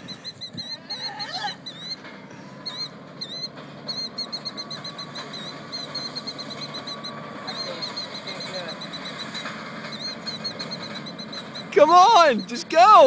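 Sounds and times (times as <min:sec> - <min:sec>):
bird alarm calls: 0:00.0 - 0:13.0.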